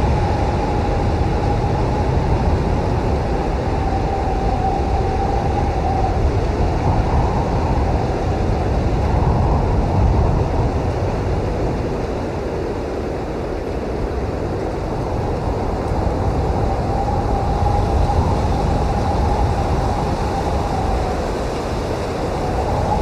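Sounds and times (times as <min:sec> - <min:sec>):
strong blizzard wind: 0:00.0 - 0:23.0.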